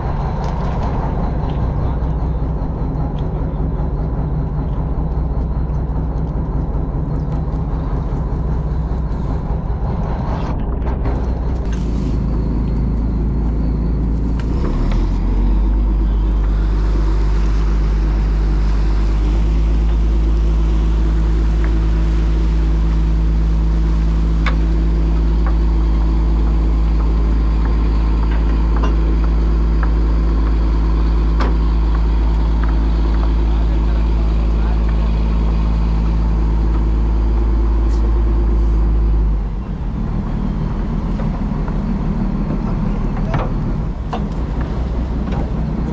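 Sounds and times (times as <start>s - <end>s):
boat engine drone: 0.0s - 45.9s.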